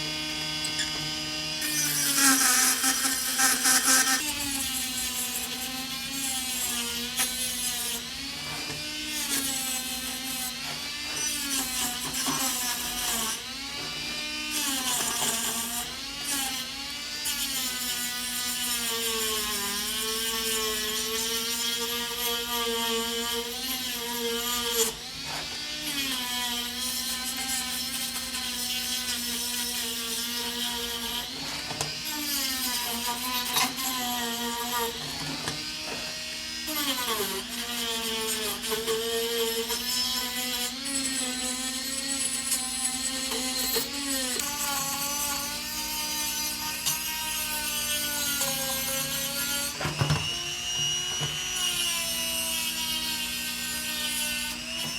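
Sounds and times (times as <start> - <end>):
small electric power tool running: 0.0 - 54.9.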